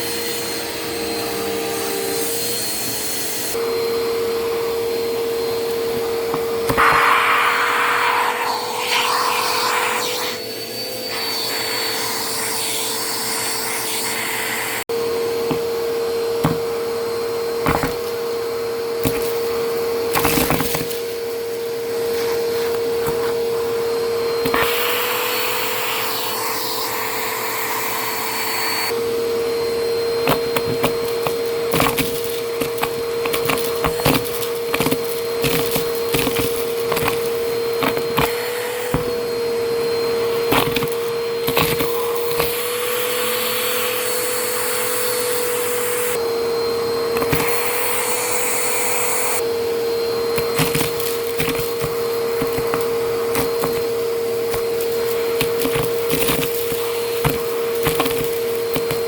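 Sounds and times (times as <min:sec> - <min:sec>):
vacuum cleaner motor whine: 0:00.0 - 0:59.0.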